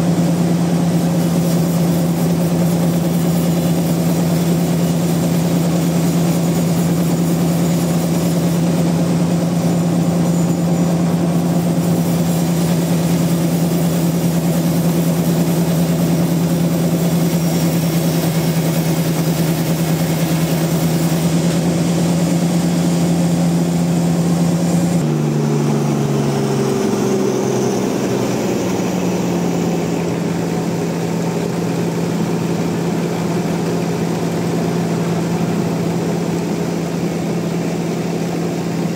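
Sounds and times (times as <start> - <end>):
sawmill machinery engine running: 0.0 - 38.9.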